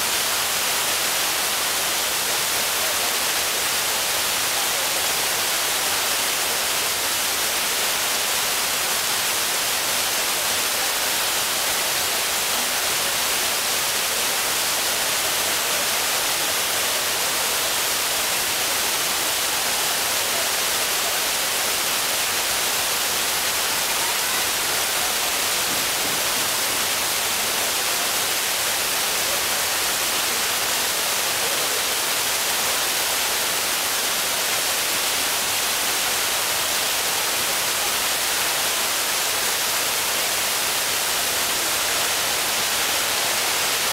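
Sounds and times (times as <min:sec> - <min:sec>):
waterfall hissing: 0:00.0 - 0:43.9.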